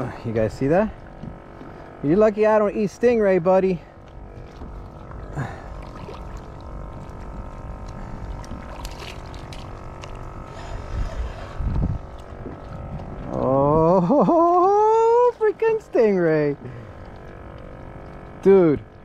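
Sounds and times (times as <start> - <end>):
electric motor whine: 0.0 - 19.0
rumble of water and wind: 0.0 - 19.0.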